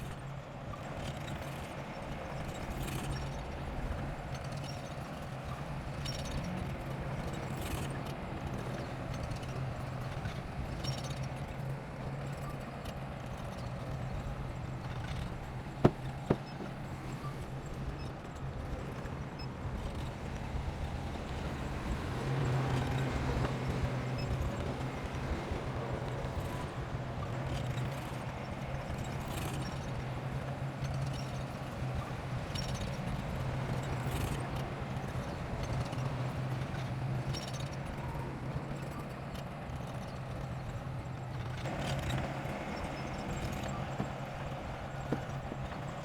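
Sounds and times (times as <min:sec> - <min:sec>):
earthmoving machinery engine hum: 0:00.8 - 0:46.0.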